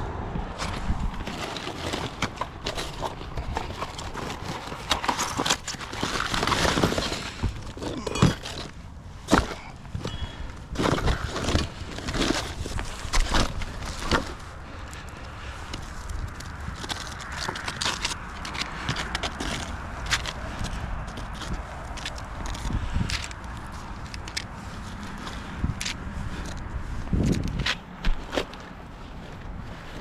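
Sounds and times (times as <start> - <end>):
knocks thuds and scrapes: 0.5 - 14.5, 15.7 - 30.0.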